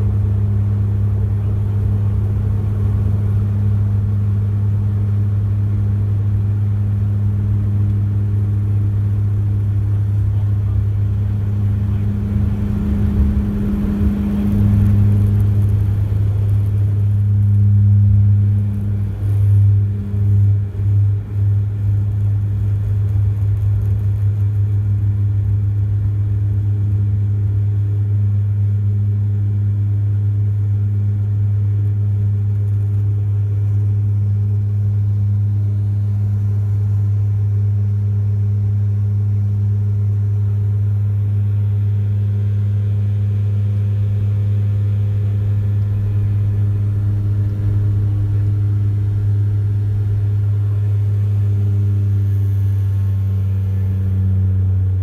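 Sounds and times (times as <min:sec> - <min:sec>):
turboprop propeller drone: 0:00.0 - 0:55.0.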